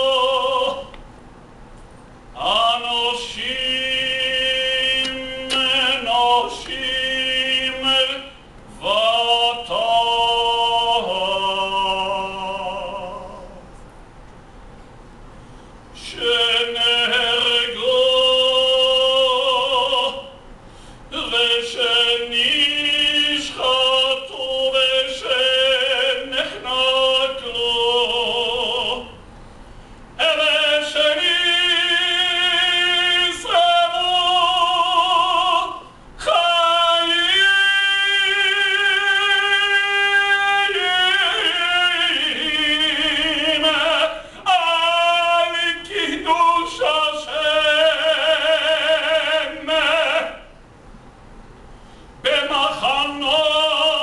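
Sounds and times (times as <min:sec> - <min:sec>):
man singing operatic: 0:00.0 - 0:01.0, 0:02.4 - 0:13.7, 0:16.0 - 0:20.4, 0:21.1 - 0:29.2, 0:30.2 - 0:50.6, 0:52.2 - 0:54.0.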